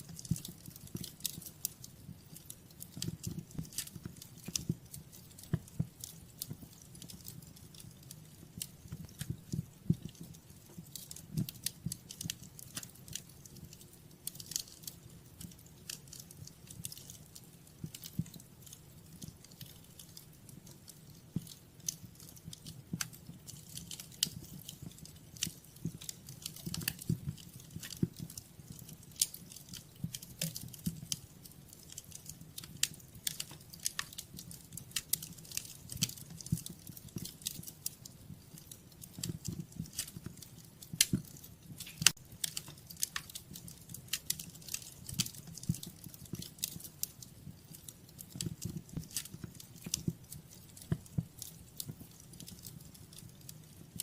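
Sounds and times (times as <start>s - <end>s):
fireplace fire crackling and popping: 0.0s - 54.0s.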